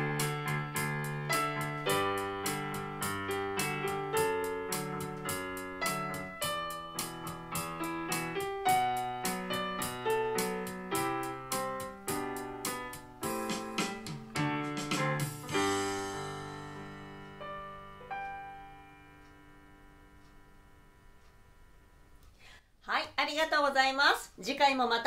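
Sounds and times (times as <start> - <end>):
piano playing: 0.0 - 22.2.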